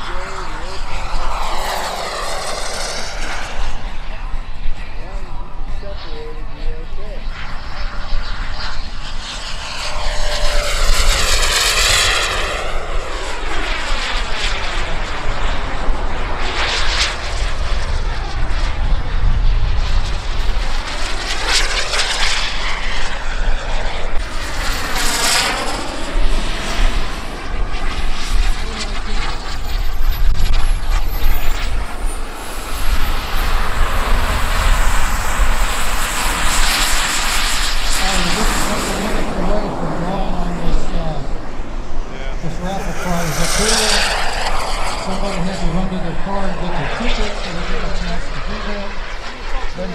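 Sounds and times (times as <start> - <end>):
model jet turbine whine: 0.0 - 49.9
wind rumble on microphone: 0.0 - 49.9.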